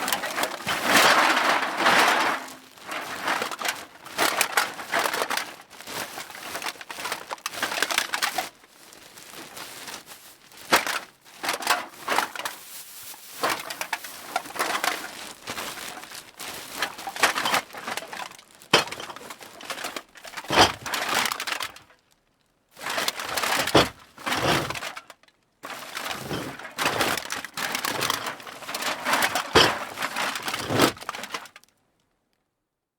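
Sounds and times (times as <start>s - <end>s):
cans clattering into a bag: 0.0s - 8.6s, 10.7s - 21.9s, 22.8s - 31.6s
bag crinkling: 0.0s - 22.2s, 22.8s - 31.7s.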